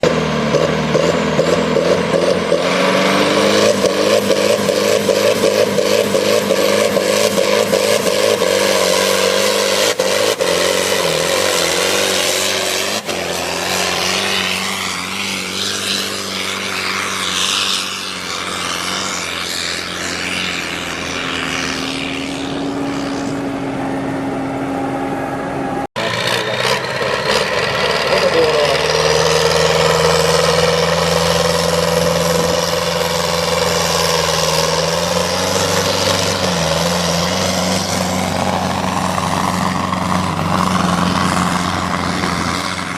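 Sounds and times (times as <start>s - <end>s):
tractor engine at high revs: 0.0s - 42.9s.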